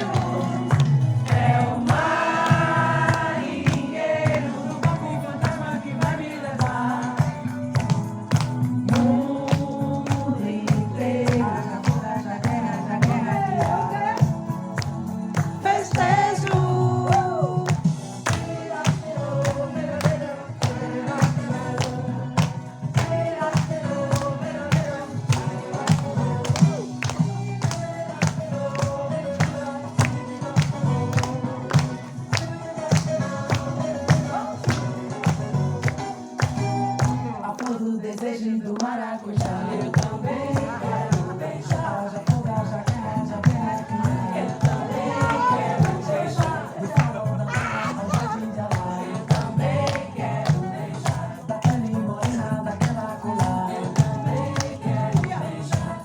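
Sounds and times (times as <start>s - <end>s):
group of voices singing: 0.0s - 56.0s
hand percussion beat: 0.0s - 56.0s.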